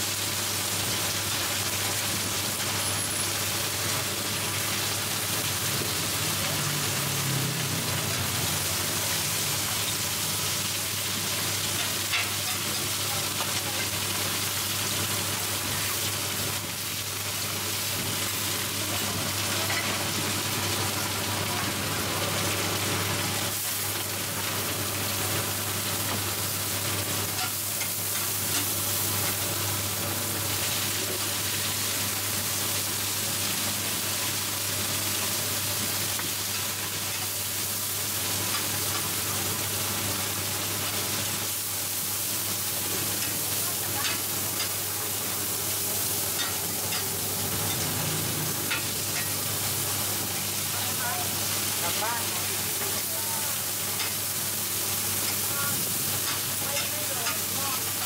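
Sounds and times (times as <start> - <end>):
batter sizzling in hot oil: 0.0 - 58.0.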